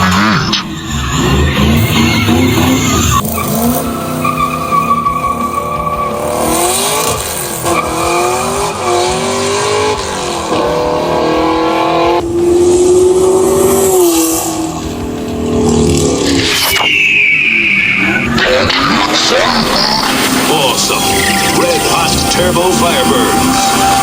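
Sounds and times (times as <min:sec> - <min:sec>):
race car engine revving: 0:00.0 - 0:24.0
tire squeals: 0:00.0 - 0:24.0.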